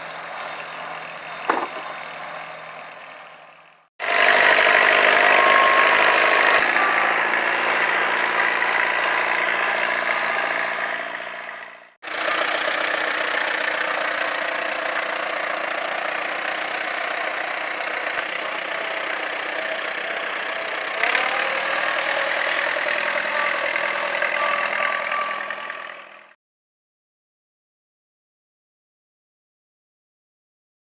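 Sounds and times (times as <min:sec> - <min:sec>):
tractor engine running: 0:00.0 - 0:26.3.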